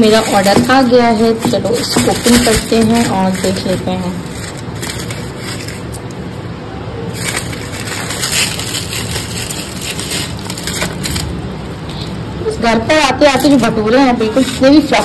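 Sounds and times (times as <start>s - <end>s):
plastic bag and wrappers rustling: 0.0s - 6.1s, 7.0s - 12.2s, 13.1s - 15.0s.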